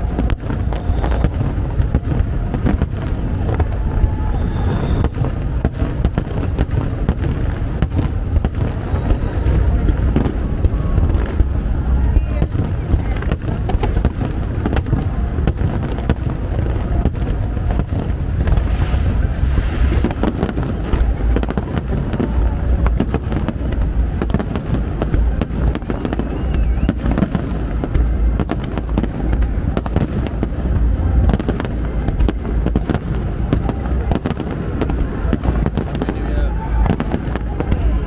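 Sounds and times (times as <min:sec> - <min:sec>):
fireworks bangs and crackles: 0:00.0 - 0:38.0
low booming rumble: 0:00.0 - 0:38.0.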